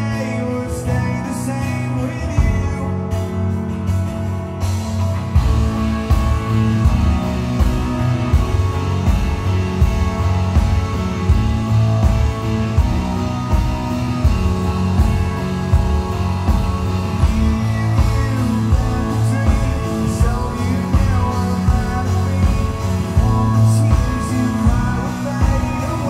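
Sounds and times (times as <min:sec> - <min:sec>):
electric guitars: 0:00.0 - 0:26.0
keyboard: 0:00.0 - 0:26.0
rock band playing: 0:00.0 - 0:26.0
strummed acoustic guitar: 0:00.0 - 0:26.0
steady drum beat: 0:02.4 - 0:03.3, 0:03.9 - 0:26.0.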